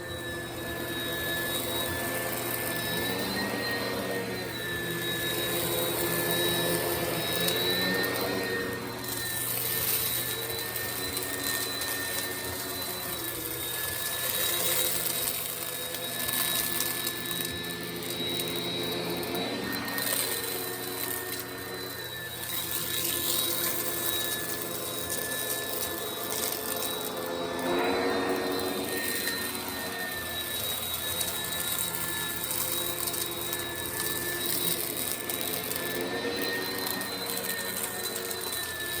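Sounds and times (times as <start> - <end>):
upright vacuum cleaner running: 0.0 - 39.0.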